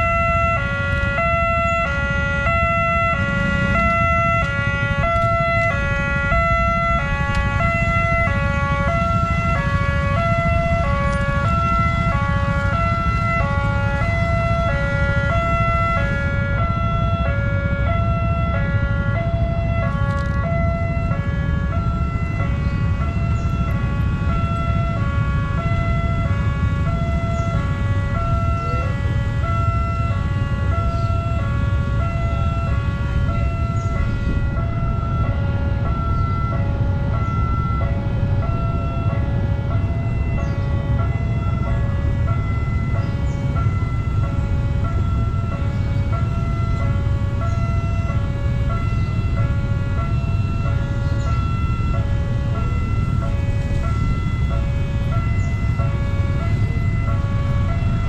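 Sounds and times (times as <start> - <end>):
steady low rumble: 0.0 - 58.0
two-tone warning siren: 0.0 - 58.0.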